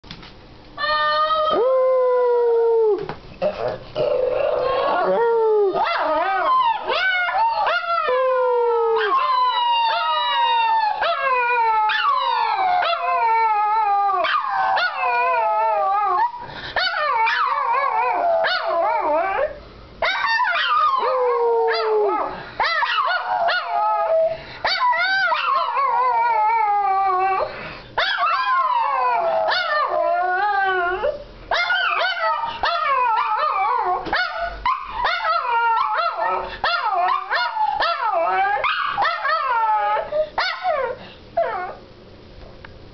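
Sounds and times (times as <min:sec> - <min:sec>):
dogs howling: 0:04.0 - 0:41.8.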